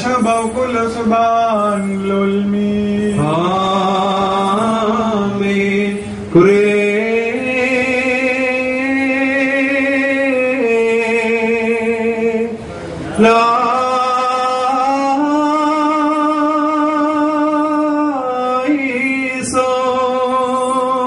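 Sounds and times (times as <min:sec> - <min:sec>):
man chanting a hymn: 0:00.0 - 0:21.0.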